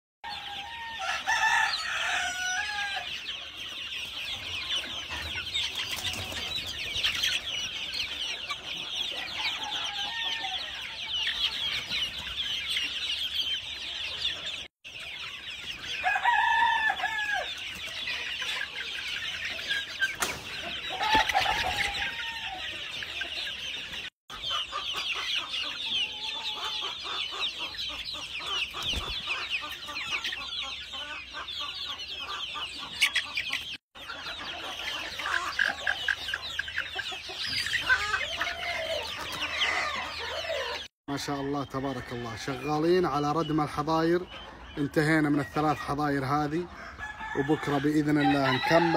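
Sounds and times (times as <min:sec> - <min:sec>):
chickens chattering and clucking: 0:00.2 - 0:48.9
drawn-out chicken calls: 0:00.2 - 0:48.9.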